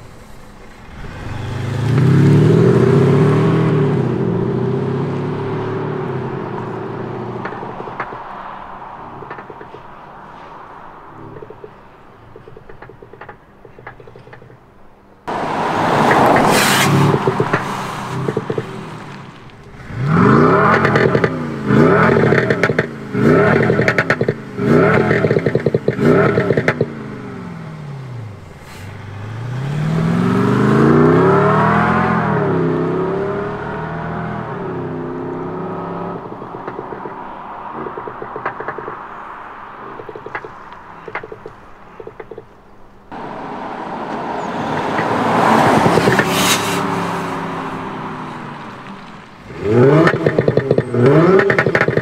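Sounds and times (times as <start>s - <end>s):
exhaust crackling pops: 5.1s - 14.7s, 15.3s - 32.7s, 33.4s - 52.0s.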